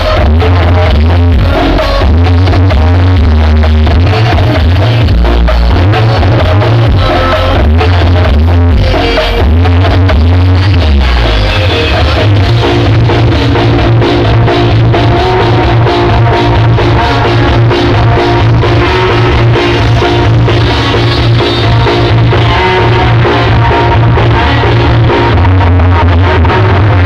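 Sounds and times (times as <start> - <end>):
loud music with heavy bass: 0.0 - 27.0.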